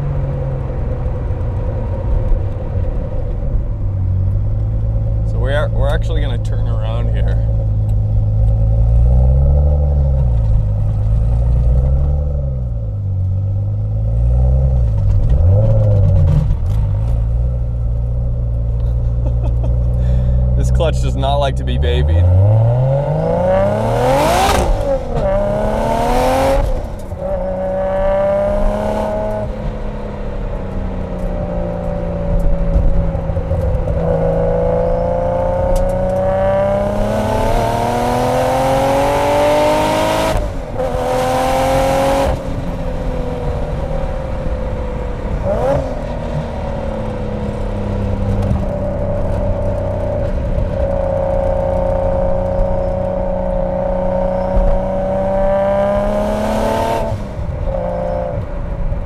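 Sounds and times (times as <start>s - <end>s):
car engine revving: 4.3s - 59.0s.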